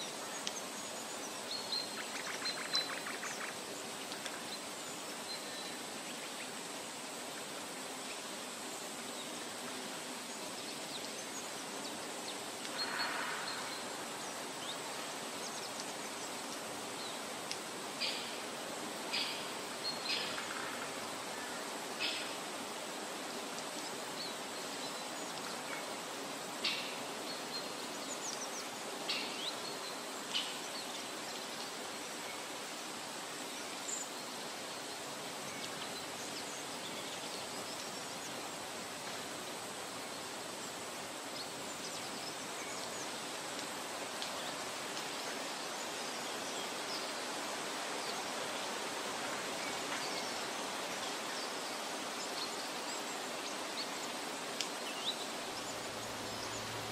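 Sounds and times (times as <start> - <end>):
steady background hiss: 0.0 - 56.9.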